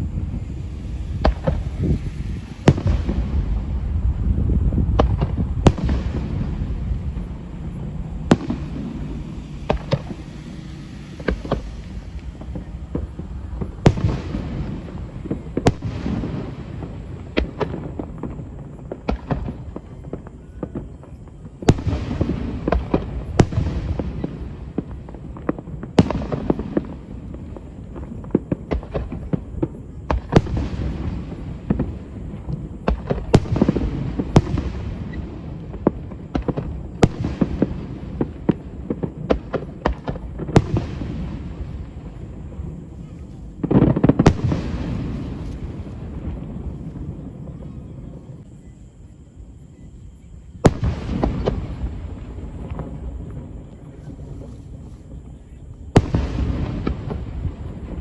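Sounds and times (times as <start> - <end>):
fireworks bangs: 0.0 - 58.0
fireworks rumble and crackle: 0.0 - 58.0.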